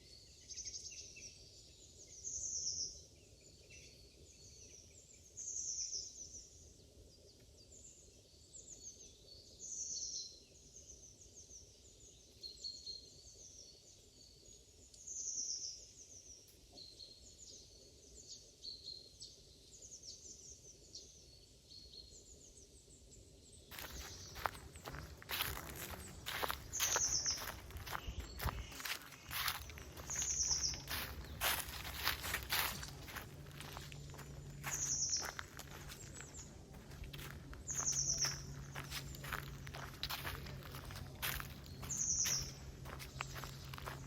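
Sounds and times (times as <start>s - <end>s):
songbirds singing and chirping: 0.0s - 44.0s.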